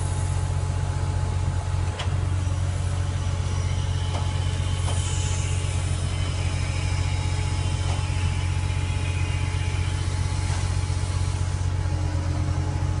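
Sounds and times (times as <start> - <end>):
diesel engine running: 0.0 - 13.0
hydraulic pump tone: 1.8 - 13.0.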